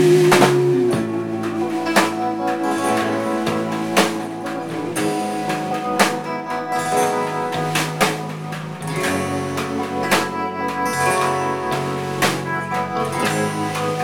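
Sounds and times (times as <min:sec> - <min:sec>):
bass guitar: 0:00.0 - 0:14.0
drums: 0:00.0 - 0:14.0
electric guitar: 0:00.0 - 0:14.0
strummed acoustic guitars: 0:00.0 - 0:14.0.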